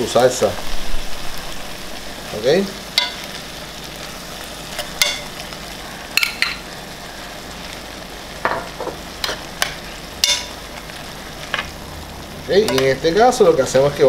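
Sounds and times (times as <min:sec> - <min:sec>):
food sizzling: 0:00.0 - 0:14.0.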